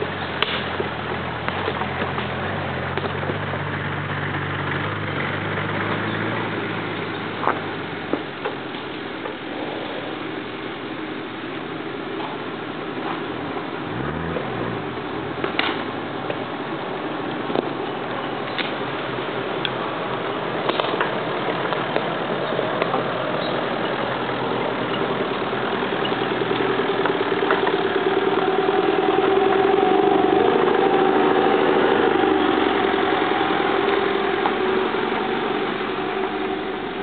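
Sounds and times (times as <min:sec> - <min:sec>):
off-road vehicle engines at low revs: 0:00.0 - 0:37.0.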